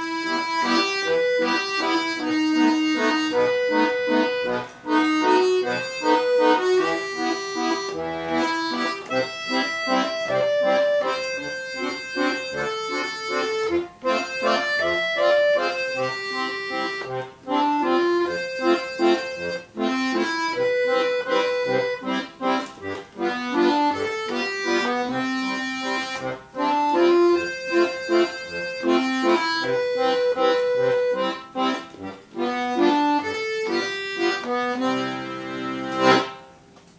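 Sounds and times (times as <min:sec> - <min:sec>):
button accordion melody: 0:00.0 - 0:36.8.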